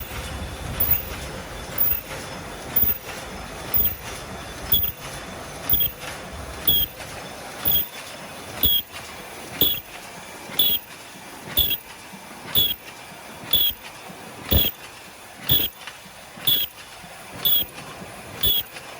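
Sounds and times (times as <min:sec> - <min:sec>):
machine mechanical clack: 0:00.0 - 0:18.9
steady machine noise: 0:00.0 - 0:18.9.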